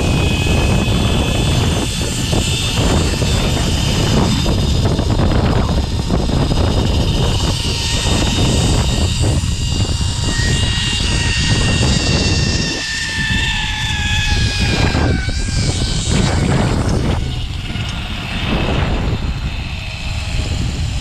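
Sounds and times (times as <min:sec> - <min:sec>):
wind rumble on microphone: 0:00.0 - 0:21.0
zipline pulleys whining on cable: 0:00.0 - 0:21.0.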